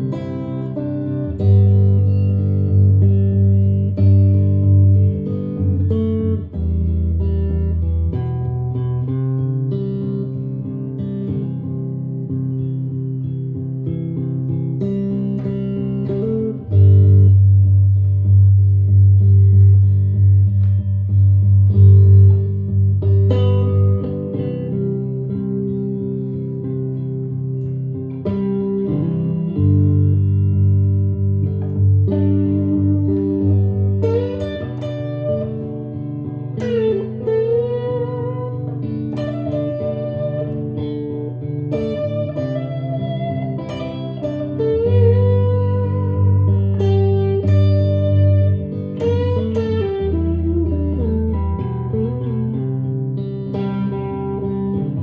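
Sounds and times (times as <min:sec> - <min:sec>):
electric guitar melody: 0:00.0 - 0:55.0.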